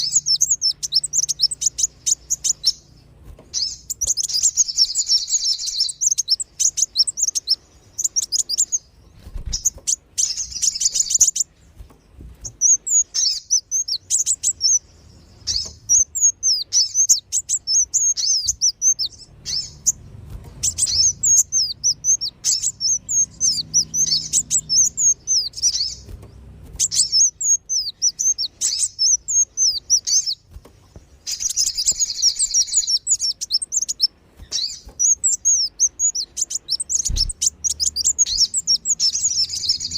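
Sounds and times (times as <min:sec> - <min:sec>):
buzzy bird trills: 0:00.0 - 0:39.9
sunbirds chirping and twittering: 0:00.0 - 0:39.9.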